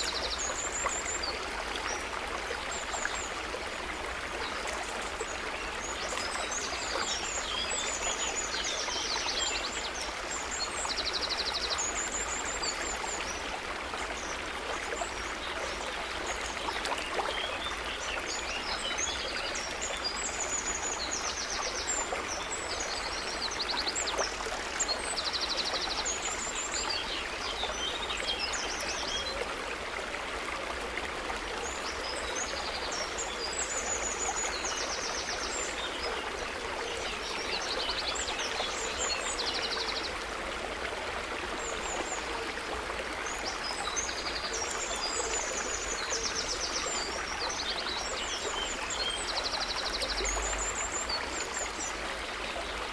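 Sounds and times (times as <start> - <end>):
brook running: 0.0 - 52.9.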